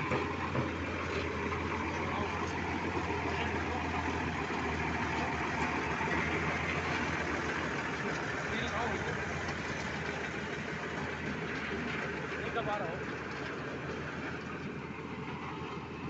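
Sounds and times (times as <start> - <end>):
road roller engine running: 0.0 - 16.0.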